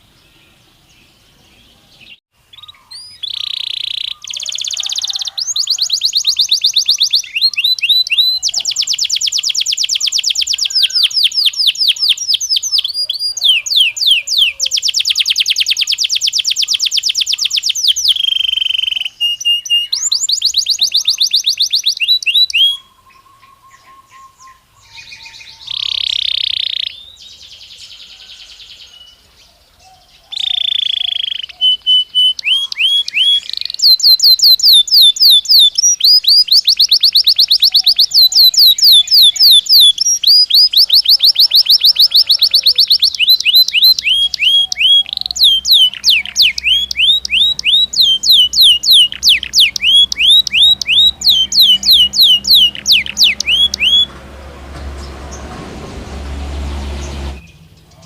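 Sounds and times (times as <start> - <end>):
canary singing trills: 0.0 - 55.6.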